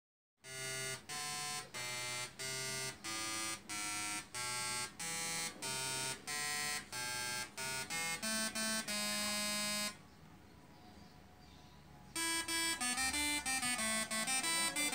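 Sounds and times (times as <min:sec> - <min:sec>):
tesla coil playing buzzy melody: 0:00.4 - 0:10.0, 0:12.2 - 0:14.9.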